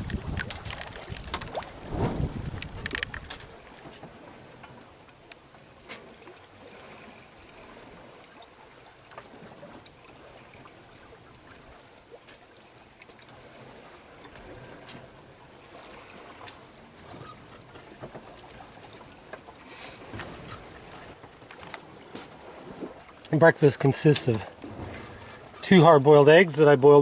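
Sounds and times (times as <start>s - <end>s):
water lapping against hull: 0.0s - 27.0s.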